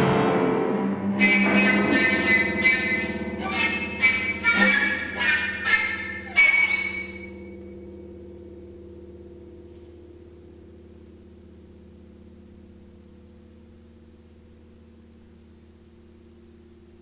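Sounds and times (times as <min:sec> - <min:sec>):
piano chord ringing: 0:00.0 - 0:17.0.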